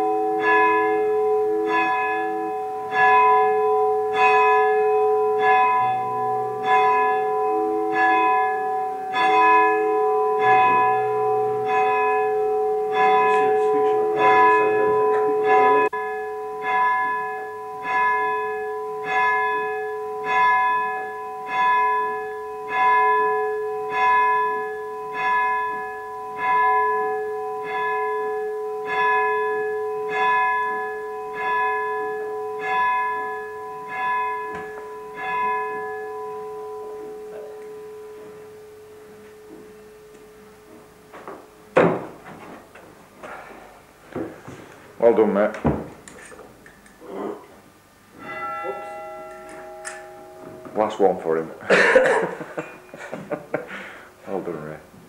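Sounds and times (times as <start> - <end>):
lower ringing tones: 0.0 - 42.3, 46.8 - 54.8
church bell ringing: 0.0 - 45.6, 48.0 - 55.0.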